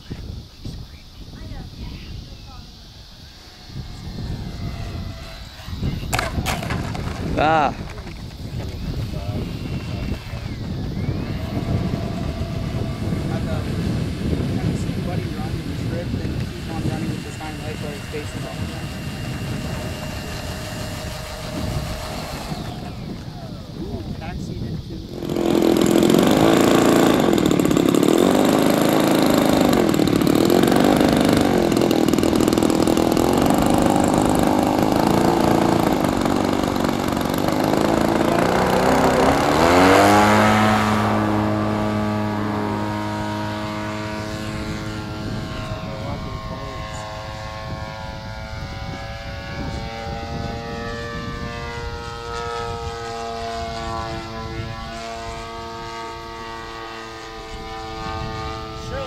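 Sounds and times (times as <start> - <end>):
model plane propeller engine: 1.2 - 59.0.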